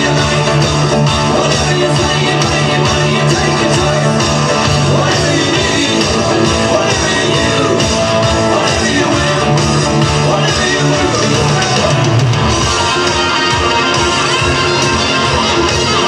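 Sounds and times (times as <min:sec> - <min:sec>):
loud rock music with guitar: 0:00.0 - 0:16.0.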